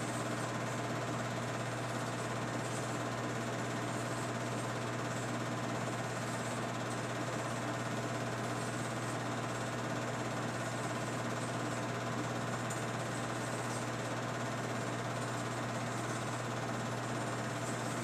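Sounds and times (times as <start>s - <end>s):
film projector whirring and clattering: 0.0s - 18.0s.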